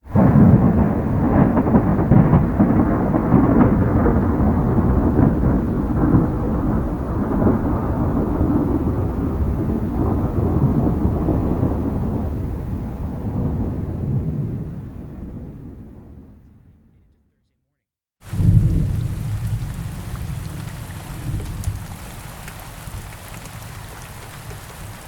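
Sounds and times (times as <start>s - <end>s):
storm rumble: 0.0s - 17.4s, 18.2s - 25.0s.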